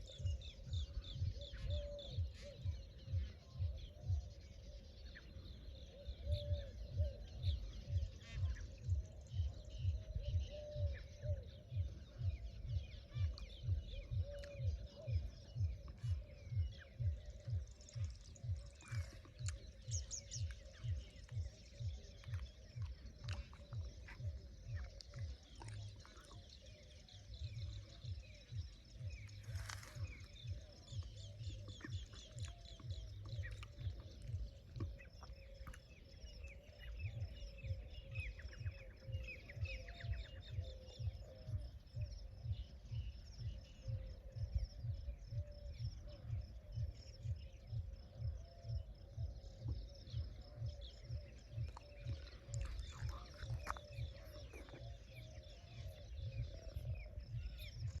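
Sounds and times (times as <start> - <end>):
birds chirping and calling: 0.0 - 58.0.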